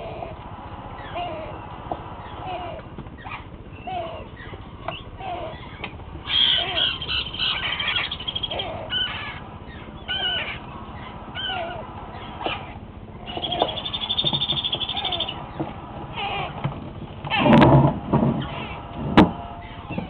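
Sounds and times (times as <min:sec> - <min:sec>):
buzzing pulsed parrot calls: 0:00.0 - 0:20.0
parrot chicks squawking: 0:00.0 - 0:20.0.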